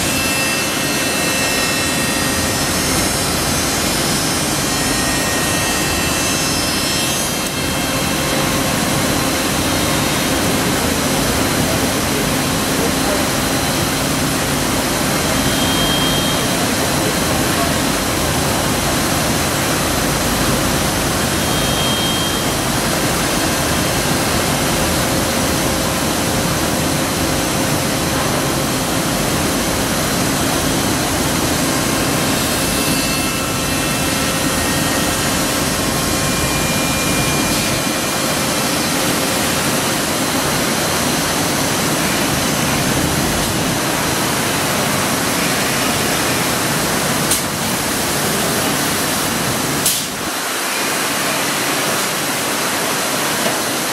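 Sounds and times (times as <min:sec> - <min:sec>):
woodworking machine rushing noise: 0:00.0 - 0:53.9.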